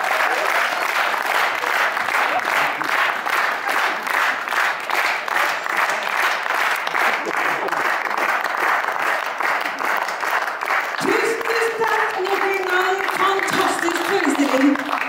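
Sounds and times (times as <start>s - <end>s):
audience rhythmic clapping: 0.0s - 15.0s.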